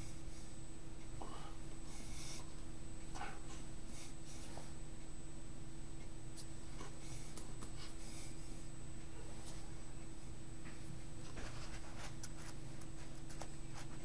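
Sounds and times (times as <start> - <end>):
faint high whine: 0.0 - 14.0
low electrical hum: 0.0 - 14.0.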